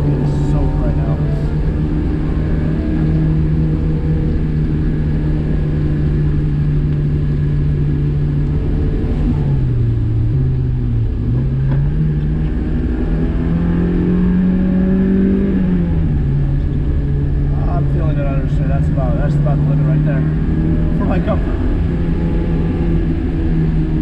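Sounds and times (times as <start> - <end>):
car engine from inside cabin: 0.0 - 24.0.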